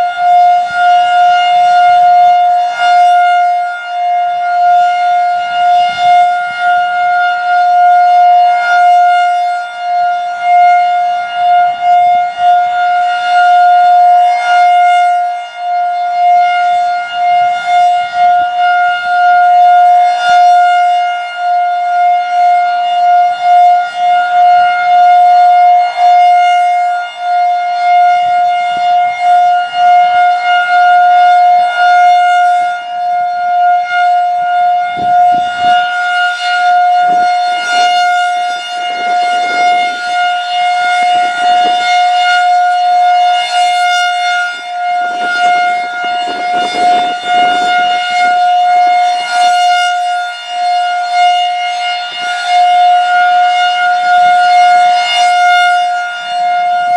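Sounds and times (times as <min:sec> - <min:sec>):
rotating siren steady tone: 0:00.0 - 0:56.9.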